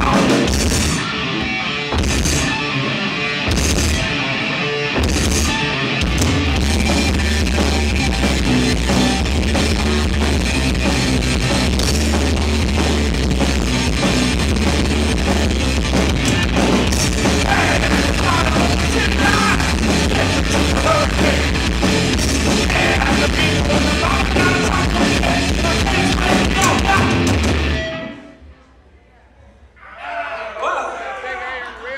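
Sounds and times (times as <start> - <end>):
drum kit: 0.0 - 28.0
heavy bass line: 0.0 - 28.1
electric guitars: 0.0 - 28.4.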